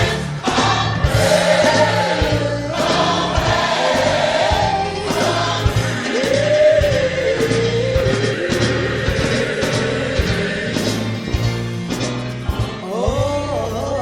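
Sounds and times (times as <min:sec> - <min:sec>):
gospel choir singing: 0:00.0 - 0:13.1
drums beat: 0:00.0 - 0:13.8
bass guitar: 0:00.0 - 0:14.0.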